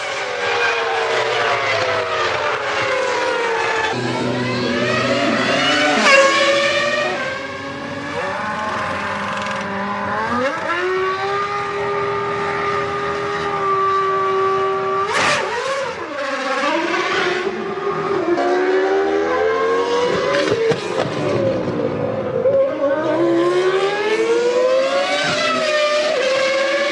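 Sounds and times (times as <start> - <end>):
racing car engine at high revs: 0.0 - 26.9.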